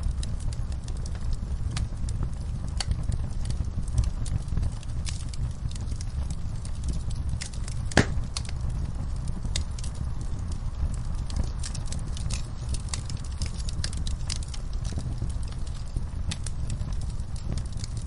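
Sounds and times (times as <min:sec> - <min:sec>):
low fire rumble: 0:00.0 - 0:18.0
wood fire crackling: 0:00.0 - 0:18.0.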